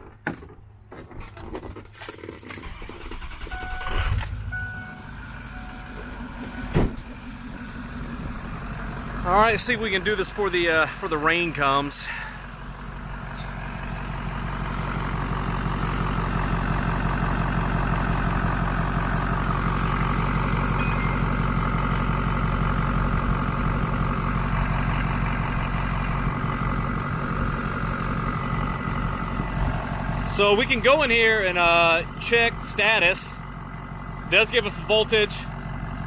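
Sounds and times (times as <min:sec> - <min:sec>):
diesel truck engine idling: 0:02.7 - 0:36.0.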